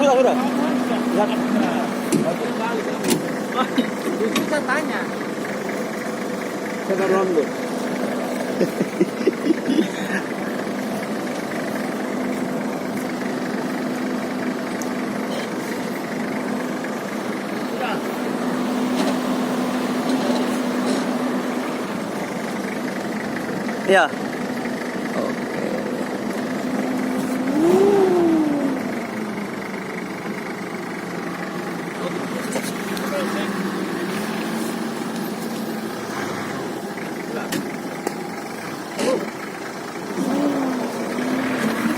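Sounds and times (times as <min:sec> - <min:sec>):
car engine running steadily: 0:00.0 - 0:41.9.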